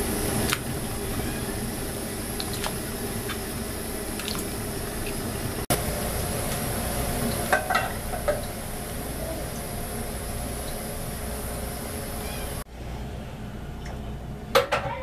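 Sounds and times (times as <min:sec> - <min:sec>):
pot boiling and bubbling: 0:00.0 - 0:12.7.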